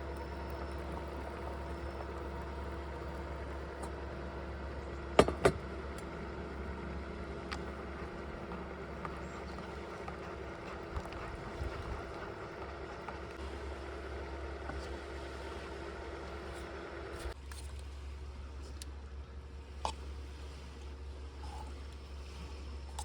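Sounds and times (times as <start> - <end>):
lower hum: 0.0 - 23.0
mechanical hum: 0.0 - 23.0.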